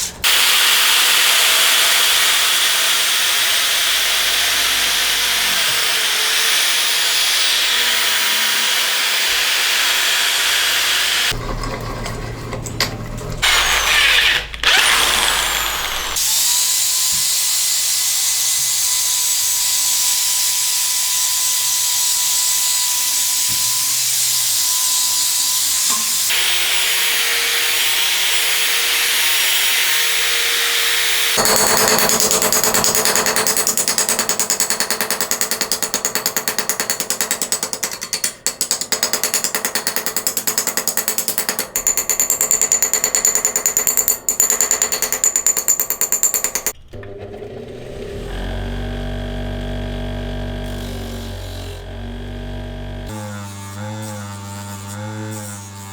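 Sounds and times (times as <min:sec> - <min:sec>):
rattling hammering power tool: 0:00.0 - 0:11.4, 0:13.4 - 0:19.5, 0:23.1 - 0:55.9.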